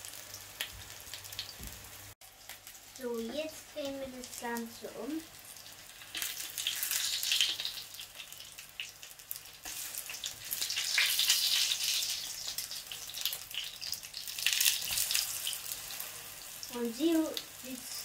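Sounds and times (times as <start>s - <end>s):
oil sizzling in a frying pan: 0.0s - 18.0s.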